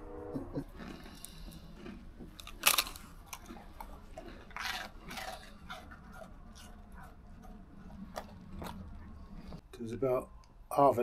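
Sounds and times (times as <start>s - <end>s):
chewing and crunching: 0.6s - 9.6s.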